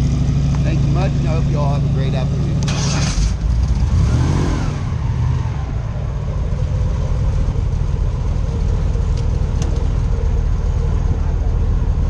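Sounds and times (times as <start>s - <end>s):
airboat engine rumbling: 0.0s - 12.0s.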